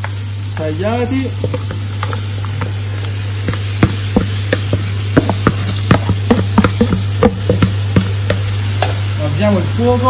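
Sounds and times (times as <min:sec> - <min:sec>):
light sizzle: 0:00.0 - 0:10.0
steady low hum: 0:00.0 - 0:10.0.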